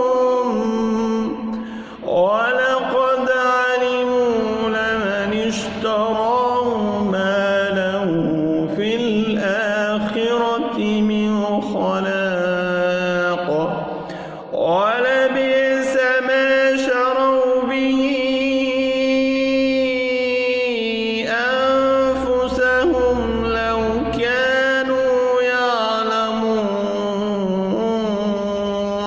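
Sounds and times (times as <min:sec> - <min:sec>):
person chanting melodically: 0:00.0 - 0:29.0.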